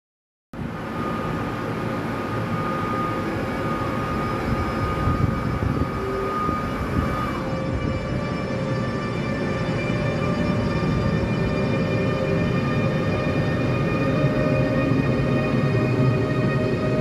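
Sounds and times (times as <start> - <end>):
high electric whine: 0.6 - 17.0
train rolling rumble: 0.6 - 17.0.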